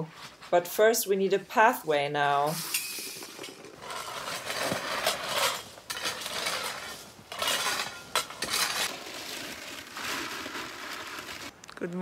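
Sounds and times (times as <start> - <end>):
metal tool scraping gravel: 1.5 - 11.5.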